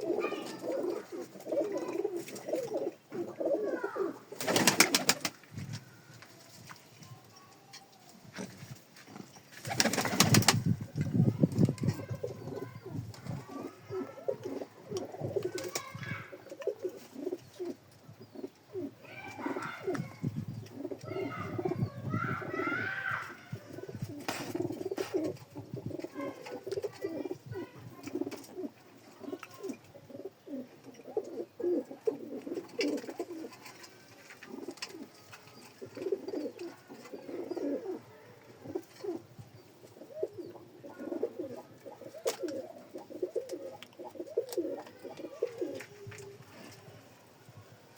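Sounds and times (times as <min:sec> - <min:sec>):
pigeons cooing: 0:00.0 - 0:06.0, 0:09.7 - 0:47.1.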